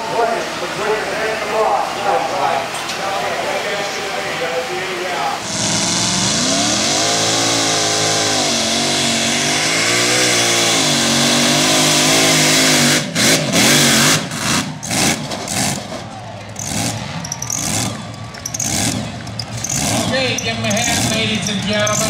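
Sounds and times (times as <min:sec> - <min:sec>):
supercharged tractor engine at full throttle: 0:00.0 - 0:22.0.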